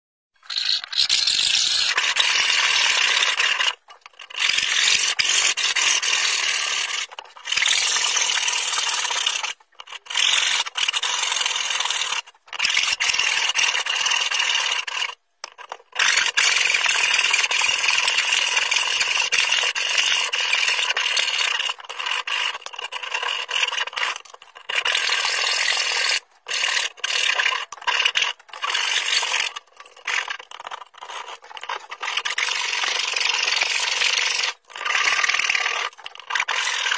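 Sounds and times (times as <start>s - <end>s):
saw cutting wood: 0.4s - 36.9s.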